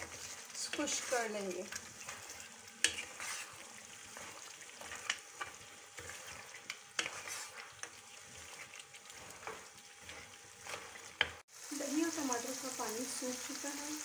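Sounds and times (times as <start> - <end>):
wooden spatula scraping pan: 0.0 - 11.5
food sizzling in a wok: 0.0 - 14.0.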